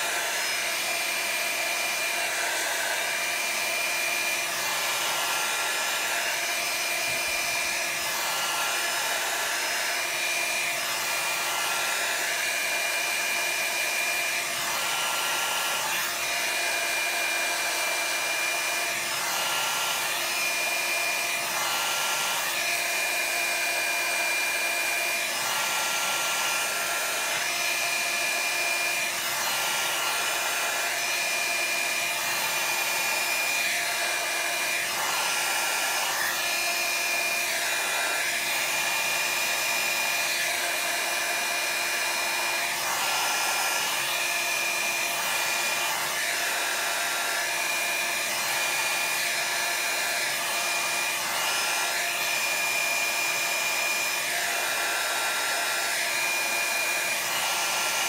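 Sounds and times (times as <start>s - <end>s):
electric blower whining: 0.0s - 58.0s.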